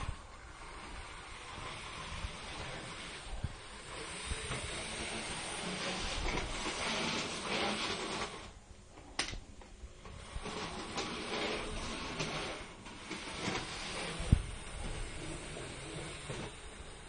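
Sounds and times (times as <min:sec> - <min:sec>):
model train motor whirring: 0:00.0 - 0:08.6, 0:10.0 - 0:17.0
train wheels on rails: 0:00.0 - 0:08.6, 0:09.2 - 0:17.0.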